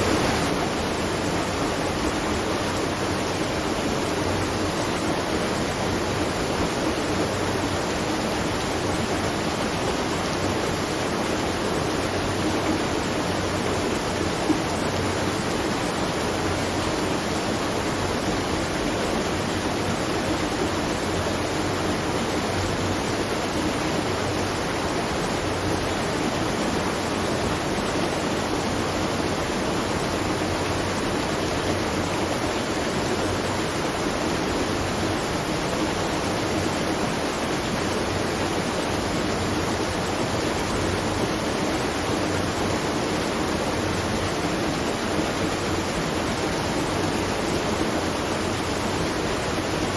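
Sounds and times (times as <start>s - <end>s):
rushing water at watermill: 0.0s - 49.9s.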